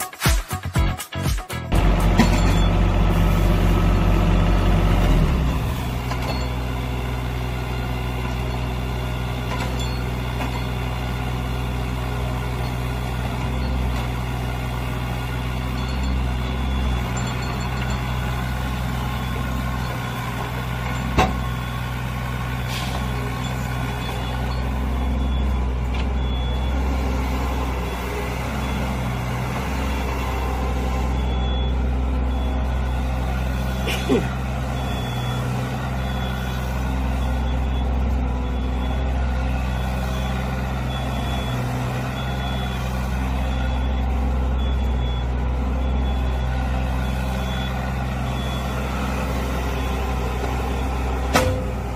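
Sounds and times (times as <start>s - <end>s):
excavator diesel engine running: 1.5s - 51.9s.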